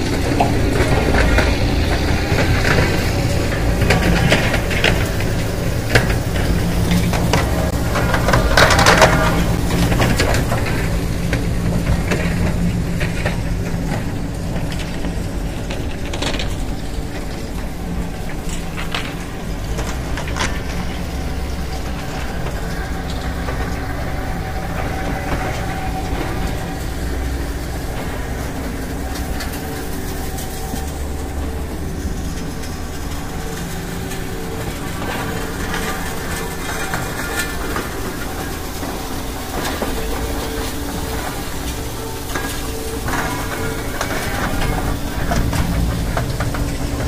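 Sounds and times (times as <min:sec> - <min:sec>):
machinery low rumble: 0:00.0 - 0:47.0
material clanking: 0:00.0 - 0:47.0
slag rattling and cracking: 0:00.0 - 0:47.0.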